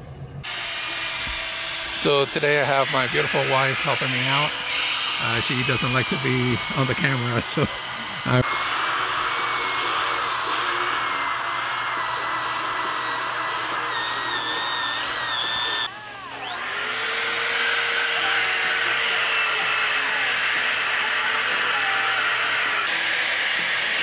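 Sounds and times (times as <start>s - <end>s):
electric sander whining: 0.4s - 24.0s.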